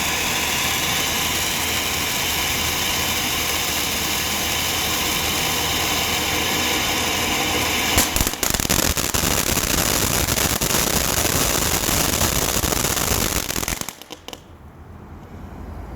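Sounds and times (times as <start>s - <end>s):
fountain firework hissing: 0.0s - 14.5s
firework crackling pops: 0.0s - 14.6s.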